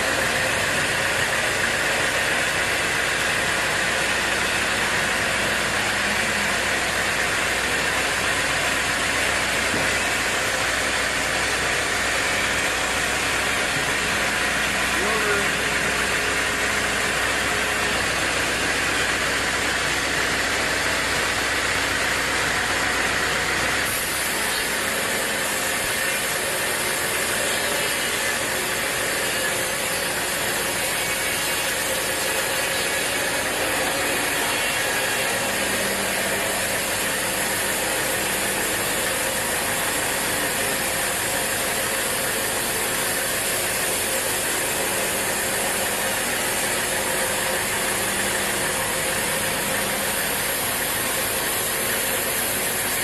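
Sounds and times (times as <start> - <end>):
sawmill machinery rattling: 0.0 - 53.0.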